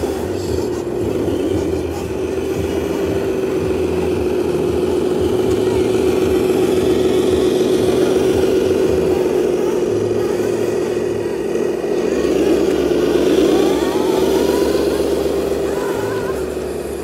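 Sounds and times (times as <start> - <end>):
radio-controlled truck motor whine: 0.0 - 17.0.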